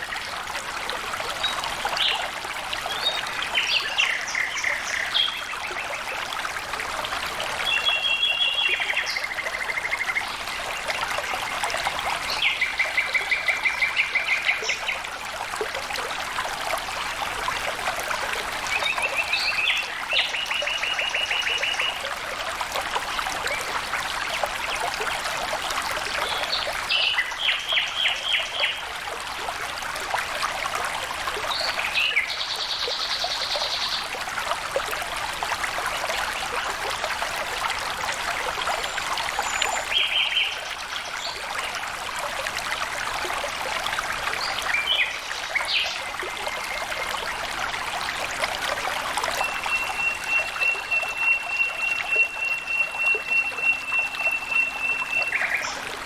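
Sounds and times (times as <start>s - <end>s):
stream water trickling: 0.0s - 56.0s.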